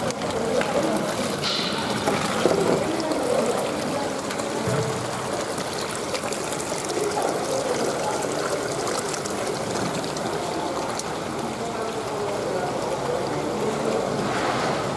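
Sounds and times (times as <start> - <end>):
air bubbles rising: 0.0 - 14.9
water splashing and gurgling: 0.0 - 14.9.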